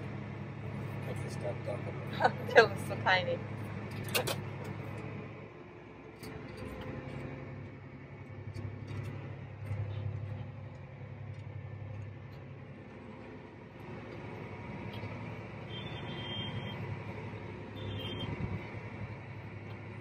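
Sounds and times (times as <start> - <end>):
tractor engine humming: 0.0 - 20.0.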